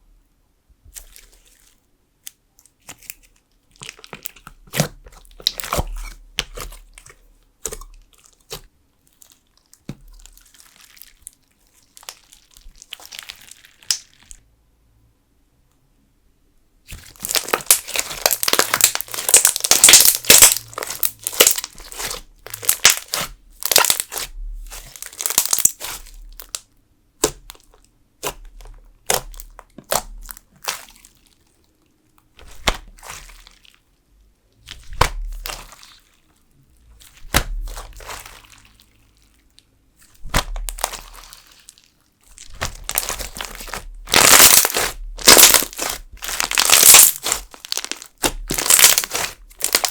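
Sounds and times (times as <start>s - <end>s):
crunchy slime crackling: 0.9s - 14.4s, 16.9s - 33.8s, 34.6s - 49.9s.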